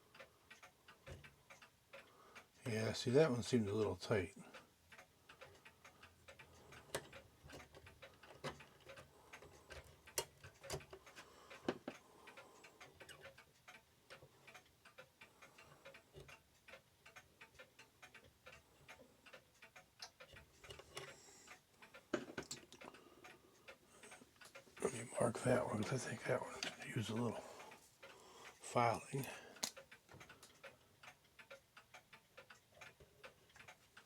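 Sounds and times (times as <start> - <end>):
mechanical clocks ticking: 0.0 - 34.0.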